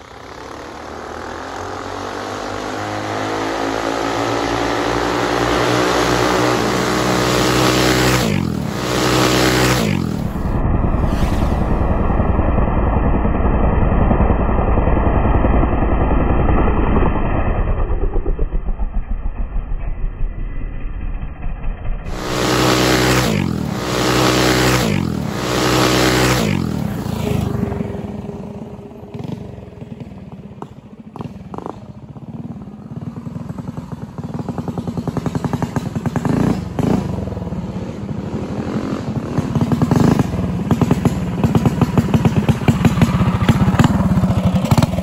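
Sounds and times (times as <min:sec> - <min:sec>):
minibike engine revving: 0:00.0 - 0:19.9, 0:22.0 - 0:45.0
engine running at low revs: 0:00.0 - 0:45.0.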